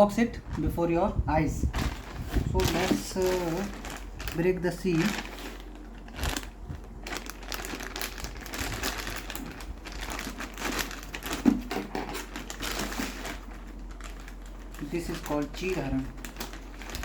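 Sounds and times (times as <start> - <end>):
packaging crinkling and tearing: 1.7 - 17.0.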